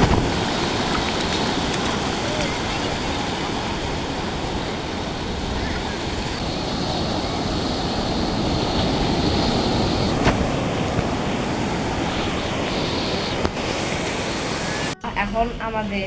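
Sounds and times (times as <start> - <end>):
waves breaking on shore: 0.0 - 15.0
wind on microphone: 0.0 - 15.0.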